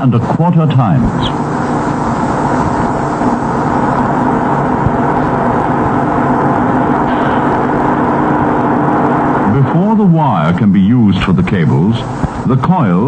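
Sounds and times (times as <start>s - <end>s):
machinery droning: 0.0s - 13.0s.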